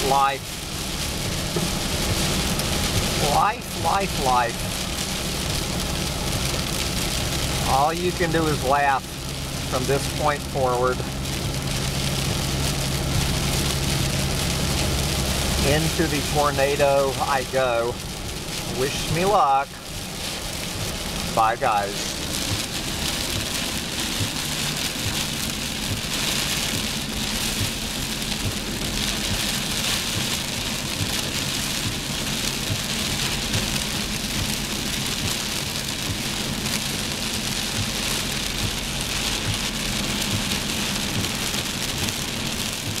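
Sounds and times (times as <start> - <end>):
heavy rain on a car: 0.0 - 43.0
road and engine hum: 0.0 - 43.0.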